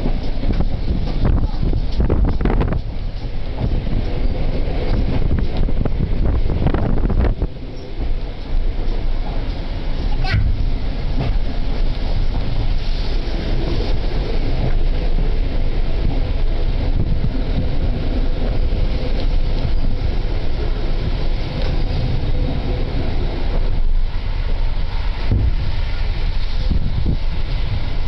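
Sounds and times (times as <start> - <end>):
train rumble: 0.0 - 28.0
wind noise on microphone: 0.0 - 28.0.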